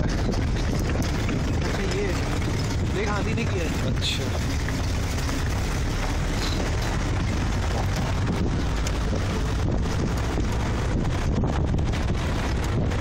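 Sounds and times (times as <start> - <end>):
vehicle rumbling on dirt track: 0.0 - 13.0
wind buffeting microphone: 0.0 - 13.0.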